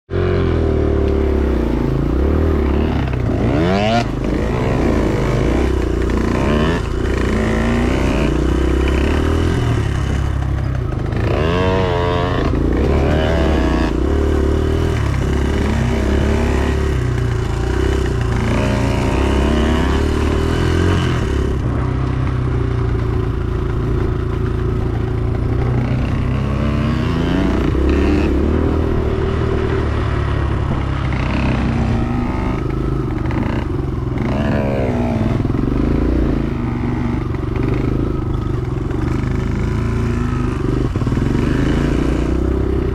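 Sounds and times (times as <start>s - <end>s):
dirt bike engine revving: 0.1s - 42.9s.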